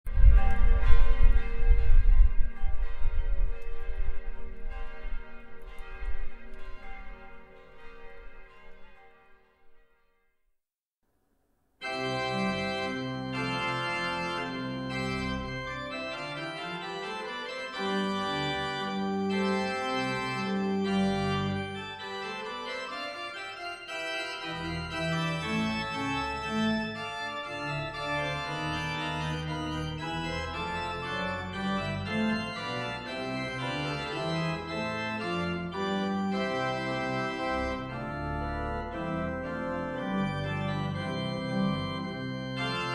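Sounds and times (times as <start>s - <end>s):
church bells: 0.1s - 9.6s, 11.8s - 42.9s
church organ chords: 0.1s - 9.6s, 11.8s - 42.9s.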